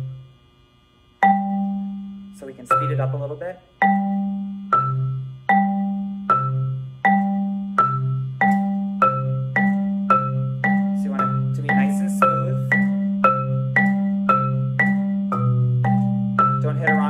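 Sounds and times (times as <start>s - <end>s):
marimba notes: 1.2s - 17.0s.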